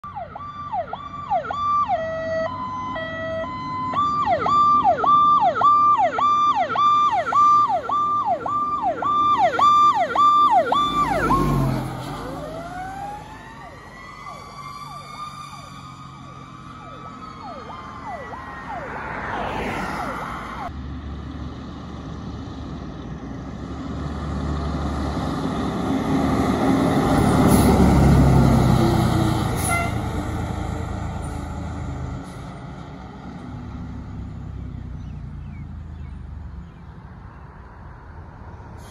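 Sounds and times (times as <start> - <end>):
fire engine siren: 0.0 - 20.7, 23.8 - 34.3
diesel truck engine: 0.0 - 38.9.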